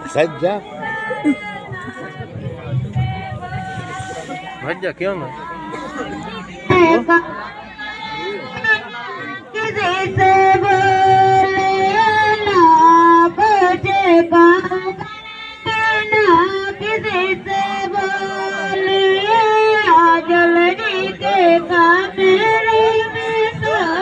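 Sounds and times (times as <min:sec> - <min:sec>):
high voice singing unaccompanied: 0:00.0 - 0:24.0.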